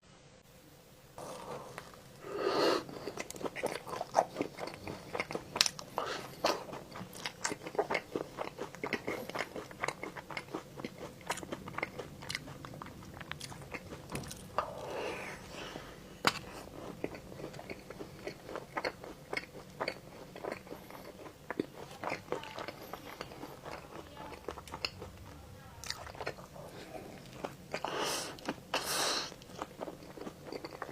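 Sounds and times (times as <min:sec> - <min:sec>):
crunchy chewing of pastry: 0:01.2 - 0:30.9.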